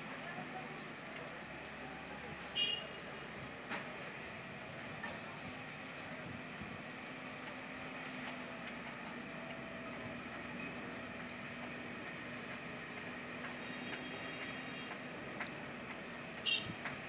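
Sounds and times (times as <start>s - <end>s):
excavator diesel engines running: 0.0s - 17.0s.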